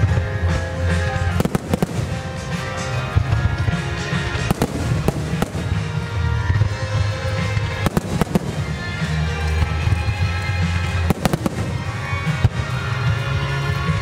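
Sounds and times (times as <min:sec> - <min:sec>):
fireworks bangs: 0:00.0 - 0:13.1
music with heavy bass: 0:00.0 - 0:14.0.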